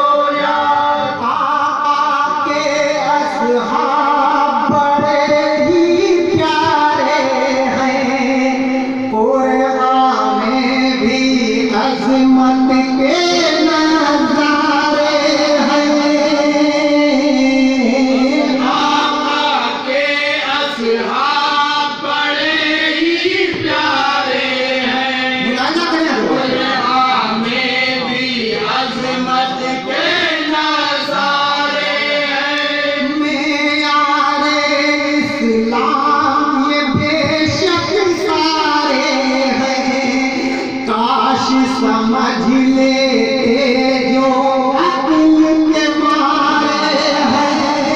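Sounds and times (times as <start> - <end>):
man singing into a microphone: 0.0 - 47.9.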